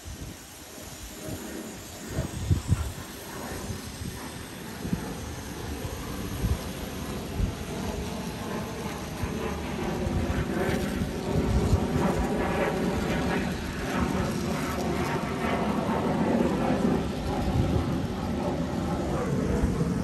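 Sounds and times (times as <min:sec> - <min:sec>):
airplane flying overhead: 0:00.0 - 0:20.0.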